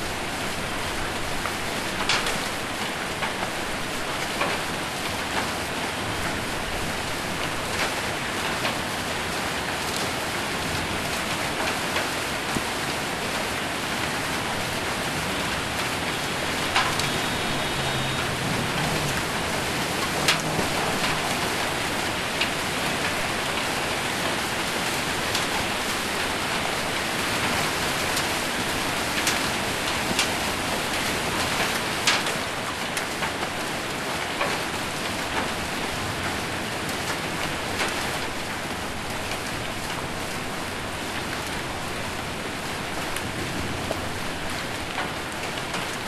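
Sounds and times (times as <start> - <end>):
rain on a metal roof: 0.0 - 46.0.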